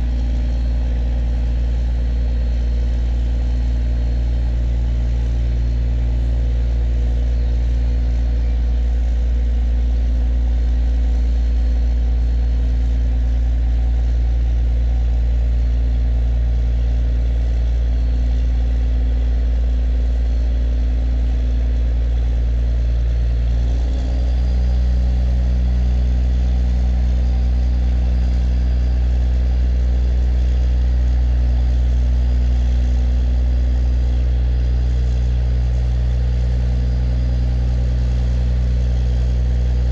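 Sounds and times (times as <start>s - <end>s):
tugboat engine droning: 0.0s - 39.9s.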